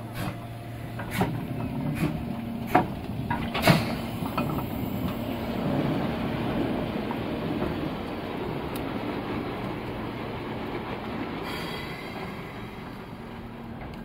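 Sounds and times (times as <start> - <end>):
steam locomotive running gear rumble: 0.0 - 14.0.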